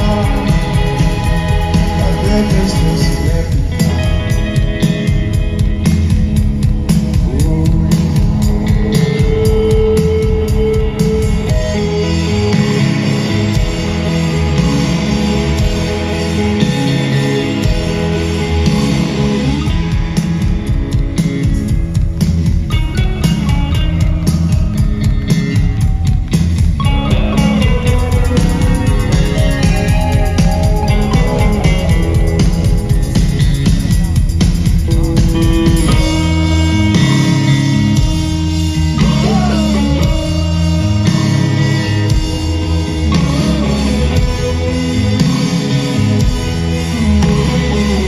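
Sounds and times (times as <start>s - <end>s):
held guitar melody: 0.0s - 48.0s
live rock band playing: 0.0s - 48.0s.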